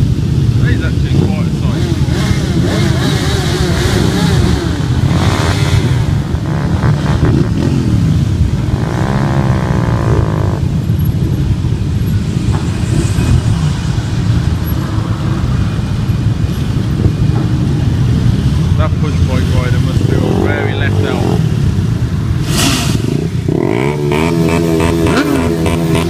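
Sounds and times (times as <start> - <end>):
motorcycle engines running: 0.0 - 26.0.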